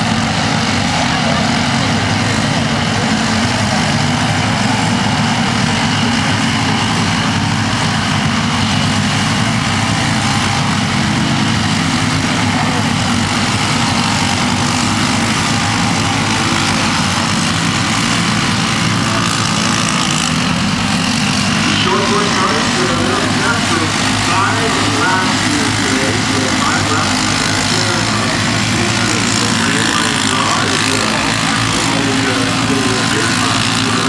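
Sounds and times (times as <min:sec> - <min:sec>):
kart engines racing: 0:00.0 - 0:34.0.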